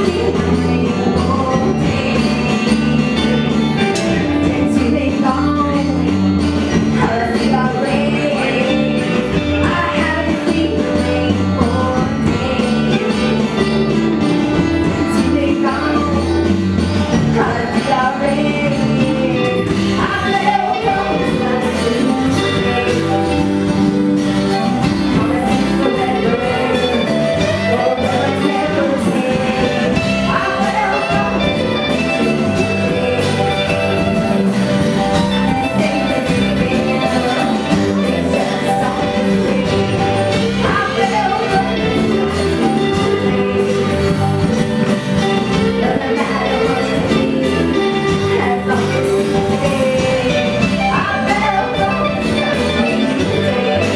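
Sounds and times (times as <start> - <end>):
woman singing: 0.0 - 23.9, 24.6 - 53.9
drums: 0.0 - 53.9
electric and acoustic guitars: 0.0 - 53.9.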